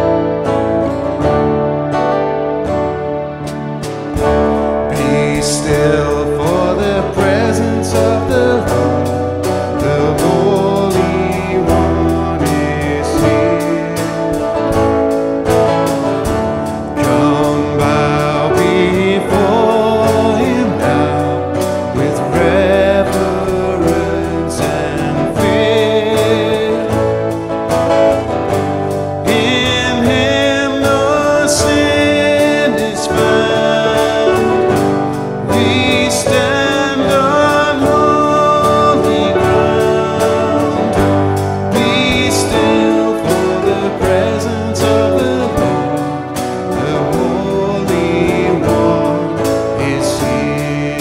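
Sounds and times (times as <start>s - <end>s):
acoustic guitar strumming chords: 0.0s - 51.0s
guitar melody line: 0.0s - 51.0s.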